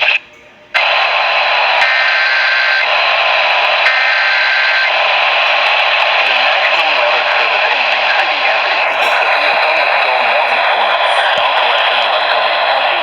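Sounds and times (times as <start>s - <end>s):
radio static hiss: 0.0s - 13.0s
warbling data tone bursts: 1.8s - 13.0s.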